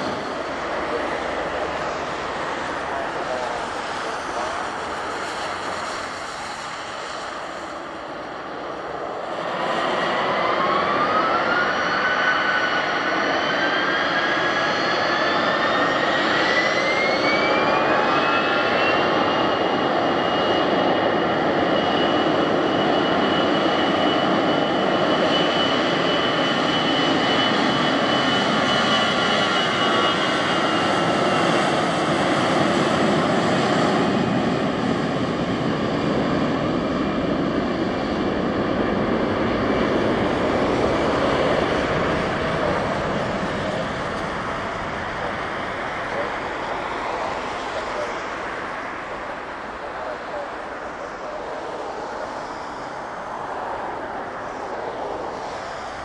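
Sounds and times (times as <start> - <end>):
high engine whine: 0.0 - 56.0
jet engine roar: 0.0 - 56.0.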